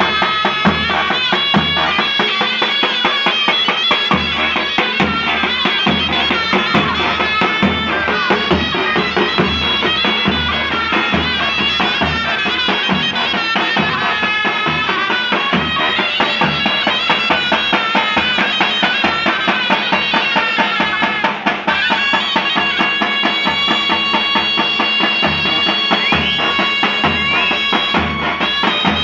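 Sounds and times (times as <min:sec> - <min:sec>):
shrill reed pipes playing melody: 0:00.0 - 0:29.0.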